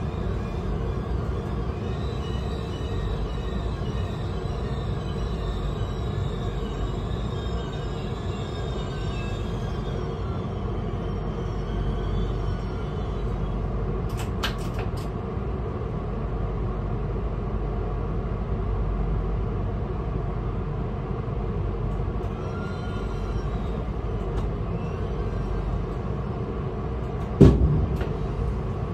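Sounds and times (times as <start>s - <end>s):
locomotive rumble and hum: 0.0s - 28.9s.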